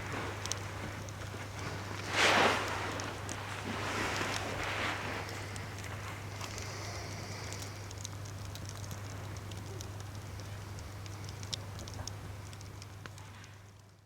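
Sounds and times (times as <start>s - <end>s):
fire crackling: 0.0s - 14.0s
steady low hum: 0.0s - 14.0s.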